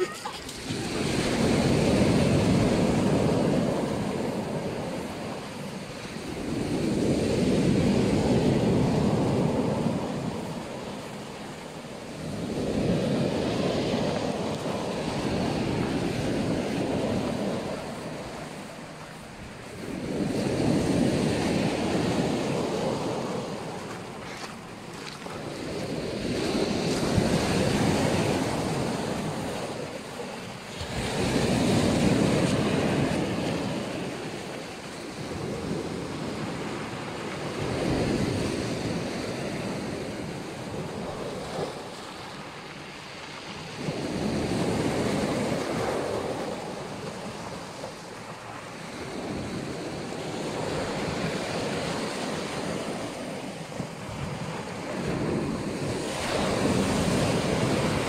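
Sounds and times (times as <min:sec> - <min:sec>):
waves breaking on shore: 0:00.0 - 0:58.0.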